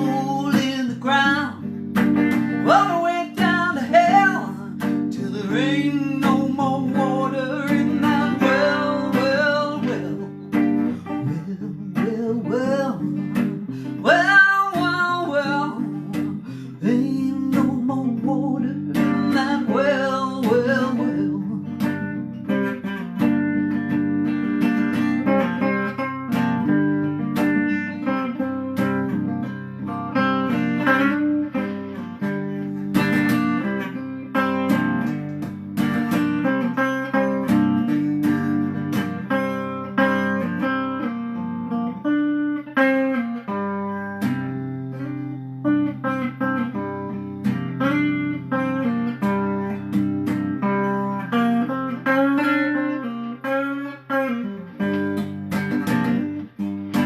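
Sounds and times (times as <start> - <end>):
guitar strumming chords: 0.0 - 57.0.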